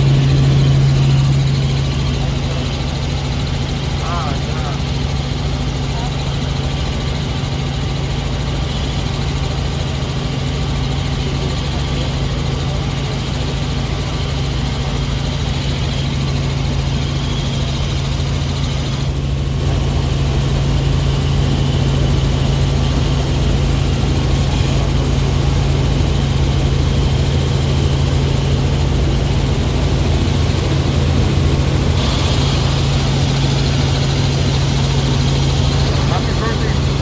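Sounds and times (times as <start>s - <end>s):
helicopter engine and rotor drone: 0.0s - 37.0s.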